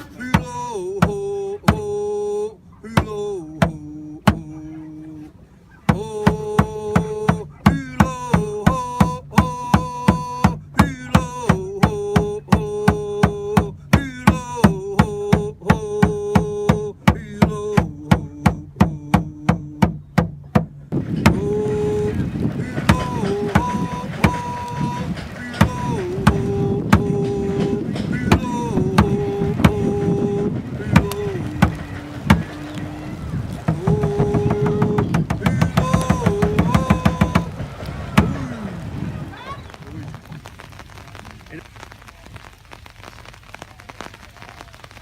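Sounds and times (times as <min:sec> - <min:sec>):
struck drum beat: 0:00.0 - 0:02.0, 0:02.9 - 0:04.6, 0:05.9 - 0:39.3
voices chanting held notes: 0:00.0 - 0:20.2, 0:20.9 - 0:42.5.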